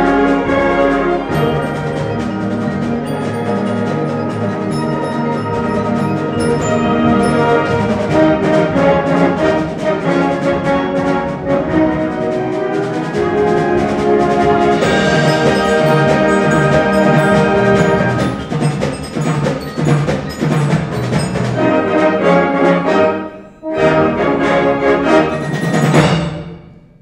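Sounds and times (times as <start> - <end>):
mallet percussion: 0.0 - 9.6, 13.8 - 24.1, 25.0 - 26.9
wind ensemble playing fanfare: 0.0 - 26.3.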